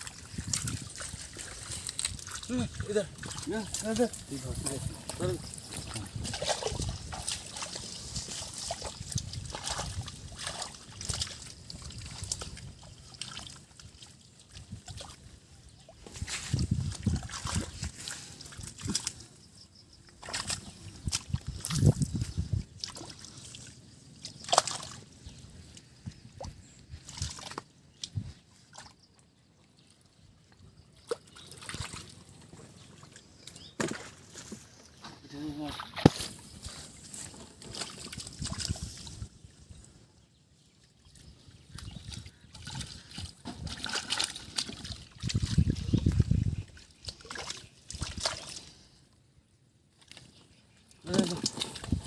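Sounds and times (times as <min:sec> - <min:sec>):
muddy water sloshing and splashing: 0:00.0 - 0:52.0.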